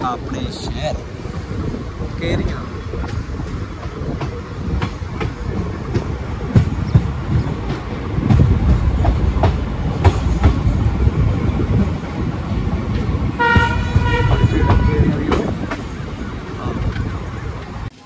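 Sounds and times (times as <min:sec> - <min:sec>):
train rumbling on rails: 0:00.0 - 0:18.0
wheels clacking over rail joints: 0:00.0 - 0:18.0.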